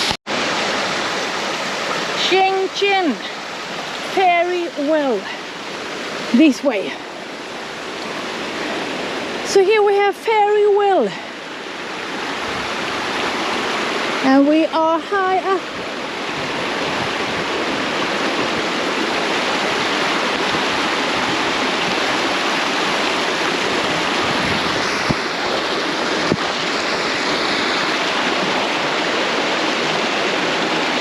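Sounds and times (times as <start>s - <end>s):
water cascading over rocks: 0.0s - 31.0s.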